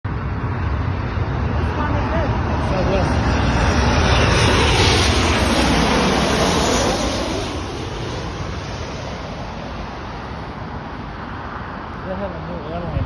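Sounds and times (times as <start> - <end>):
jet airliner passing overhead: 0.1 - 13.0.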